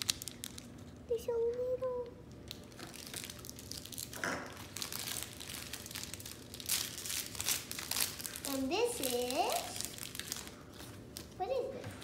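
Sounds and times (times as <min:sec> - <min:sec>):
wrapping crinkling: 0:00.0 - 0:01.0, 0:02.3 - 0:11.4.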